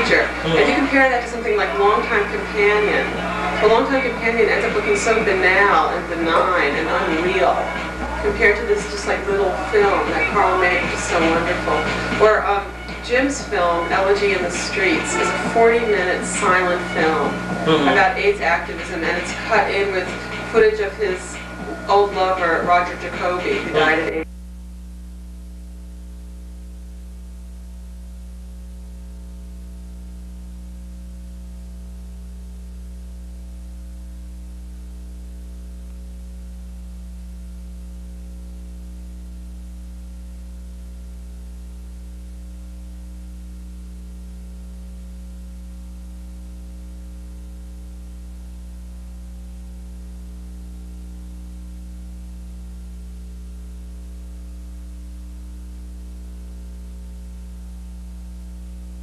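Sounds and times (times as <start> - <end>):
electrical mains hum: 0.0 - 59.0
static hiss: 0.0 - 59.0.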